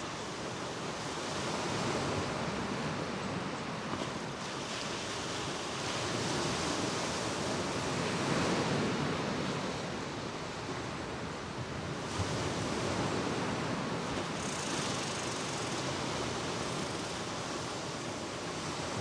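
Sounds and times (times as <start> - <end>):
lake waves washing onto shore: 0.0 - 19.0.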